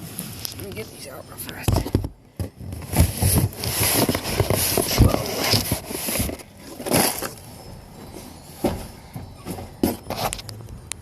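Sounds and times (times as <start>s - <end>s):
cardboard and paper rustling: 0.0s - 10.6s.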